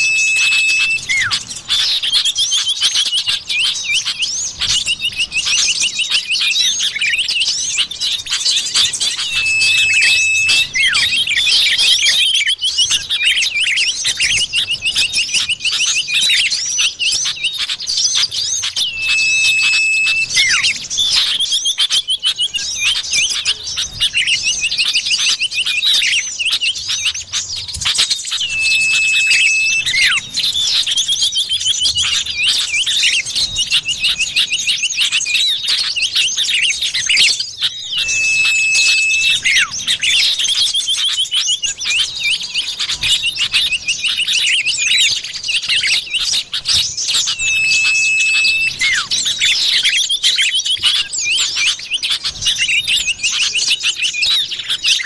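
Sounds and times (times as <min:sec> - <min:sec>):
bird chattering chirps: 0:00.0 - 0:55.0
long steady bird whistle: 0:00.0 - 0:55.0.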